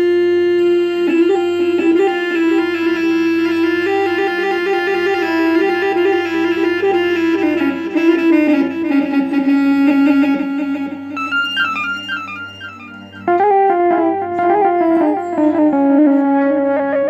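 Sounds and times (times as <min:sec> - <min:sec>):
bowed fiddle melody on keyboard: 0:00.0 - 0:17.0.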